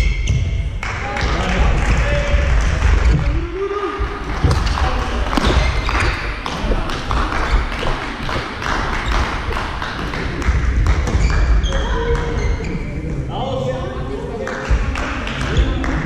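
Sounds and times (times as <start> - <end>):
hubbub in echoing hall: 0.0 - 16.0.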